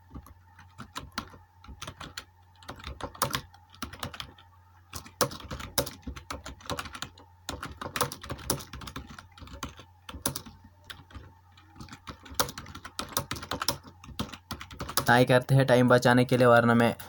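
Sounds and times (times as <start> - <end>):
keyboard typing clicks: 0.1 - 15.1.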